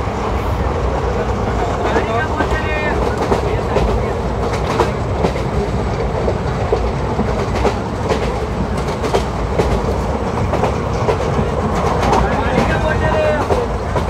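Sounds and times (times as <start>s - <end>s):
train wheels rumbling on rail: 0.0s - 14.0s
wheels clicking over rail joints: 1.2s - 14.0s.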